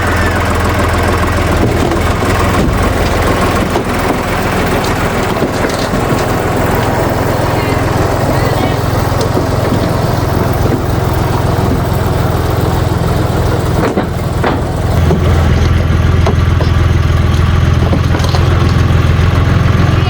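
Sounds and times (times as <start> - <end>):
diesel engine running: 0.0 - 20.0
knocks: 1.0 - 12.4, 13.5 - 20.0.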